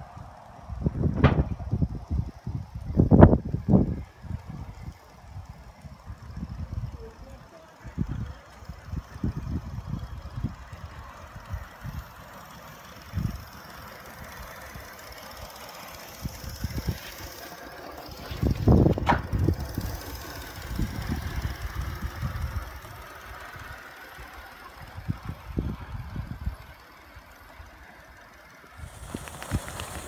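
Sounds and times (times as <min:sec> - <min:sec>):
model steam locomotive running: 0:00.0 - 0:30.0.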